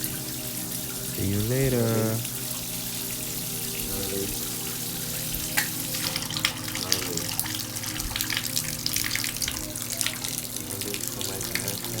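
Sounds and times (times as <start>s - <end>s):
steady hum: 0.0s - 12.0s
water splashing from shower valve: 0.0s - 12.0s.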